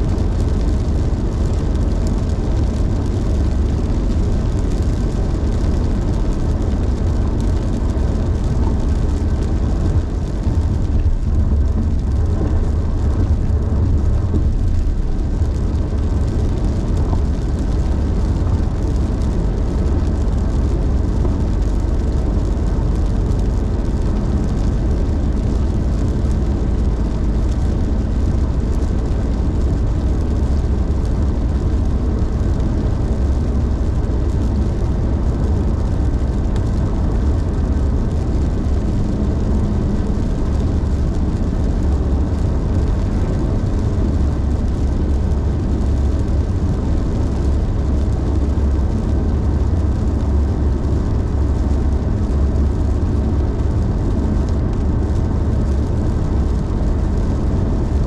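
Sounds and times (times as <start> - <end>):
car tyres and engine rumbling: 0.0 - 58.0.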